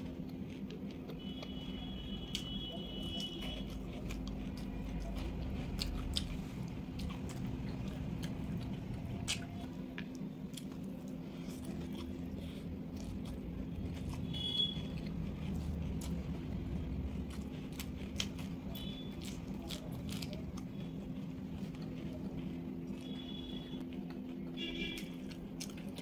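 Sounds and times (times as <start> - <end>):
chewing smacks: 0.0 - 26.0
steady low hum: 0.0 - 26.0.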